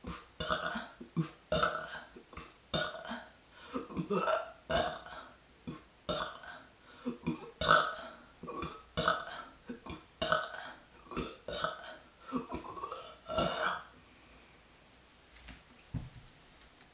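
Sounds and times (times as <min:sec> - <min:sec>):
woman burping: 0:00.0 - 0:13.9.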